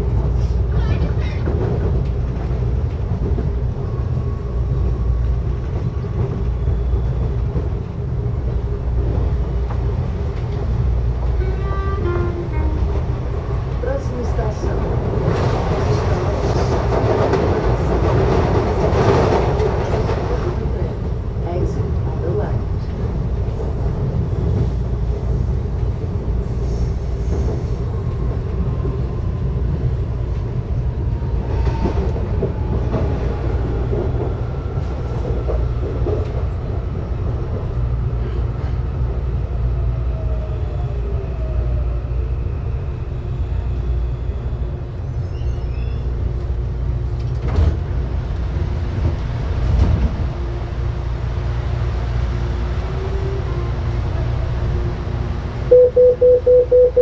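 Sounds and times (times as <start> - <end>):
train wheels rumbling on rail: 0.0 - 55.7.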